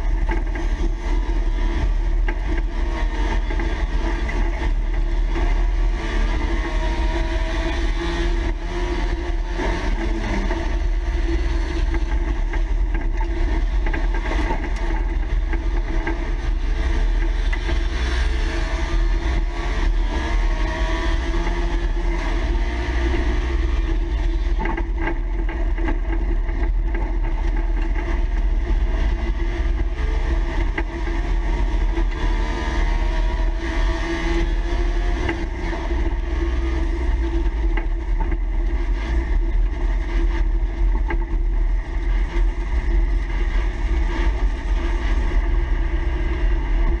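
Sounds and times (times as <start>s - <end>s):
car engine running hard: 0.0s - 47.0s
low rumble of car bouncing: 0.0s - 47.0s.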